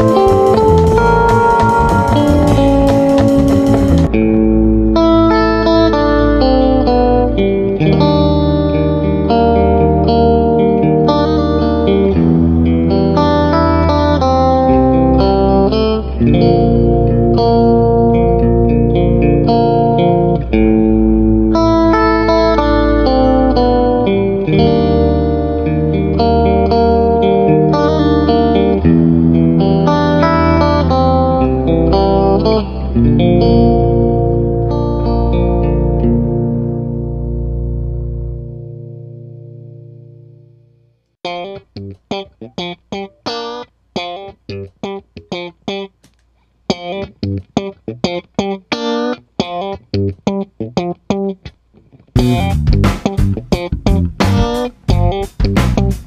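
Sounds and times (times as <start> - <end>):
electric guitar notes and chords: 0.0 - 56.0.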